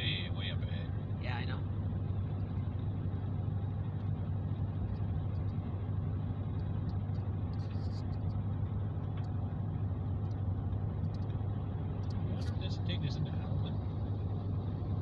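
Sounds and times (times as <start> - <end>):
car cabin highway drone: 0.0 - 15.0.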